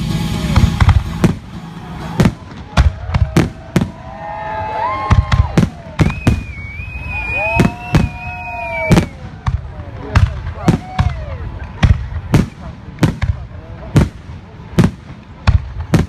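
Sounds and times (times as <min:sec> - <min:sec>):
fireworks bangs: 0:00.0 - 0:16.0
whistling fireworks: 0:00.0 - 0:16.0.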